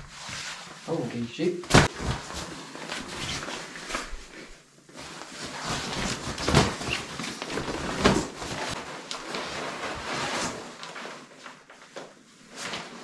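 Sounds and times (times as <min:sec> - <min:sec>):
sleeping pad rustling and crinkling: 0:00.0 - 0:01.0, 0:01.7 - 0:13.0.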